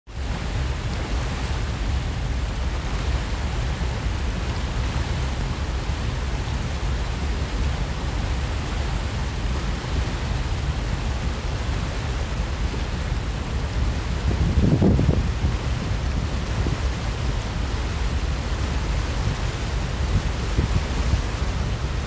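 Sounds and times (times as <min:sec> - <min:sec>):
wind buffeting microphone: 0:00.2 - 0:22.0.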